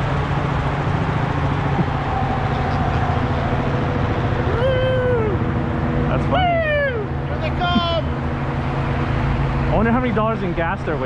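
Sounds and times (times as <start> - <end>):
helicopter rotor drone: 0.0 - 11.0.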